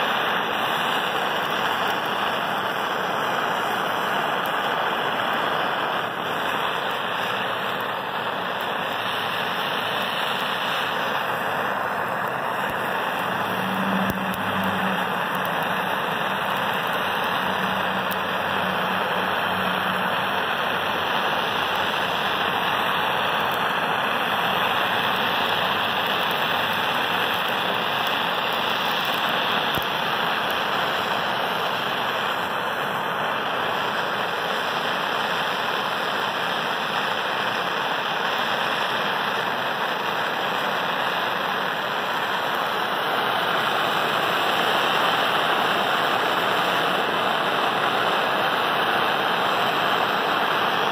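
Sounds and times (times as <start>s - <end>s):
gas torch flame hissing: 0.0s - 50.9s.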